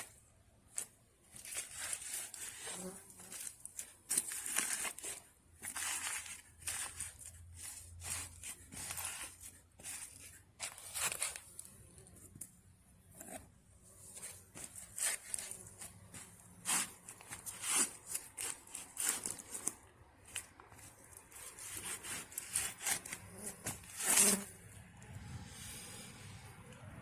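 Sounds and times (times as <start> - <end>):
hands rustling and scraping: 0.0 - 24.8.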